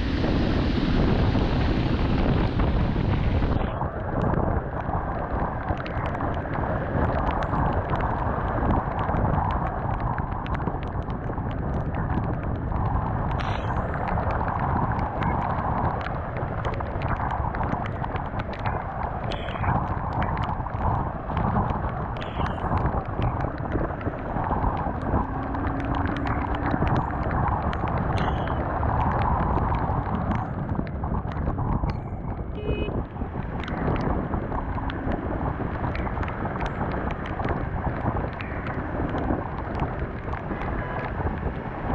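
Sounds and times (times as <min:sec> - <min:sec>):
raindrops hitting camera: 0:00.0 - 0:41.9
wind rushing over camera: 0:00.0 - 0:41.9.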